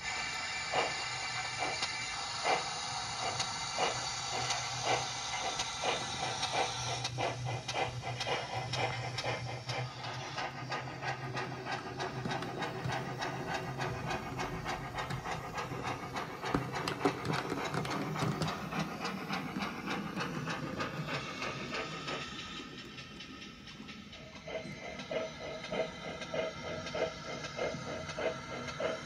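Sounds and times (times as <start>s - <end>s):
model steam engine chuffs: 0.0s - 29.0s
steam hiss: 0.0s - 29.0s.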